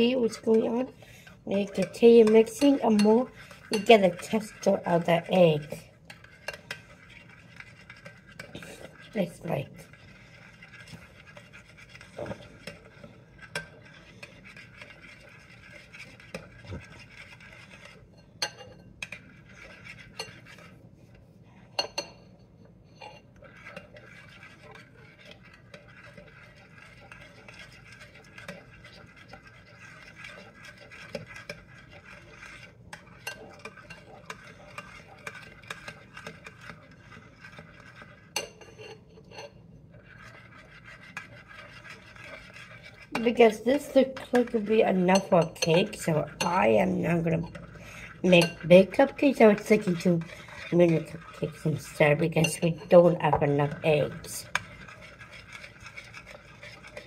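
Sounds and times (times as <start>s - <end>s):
spoon scraping bowl: 0.0s - 57.0s.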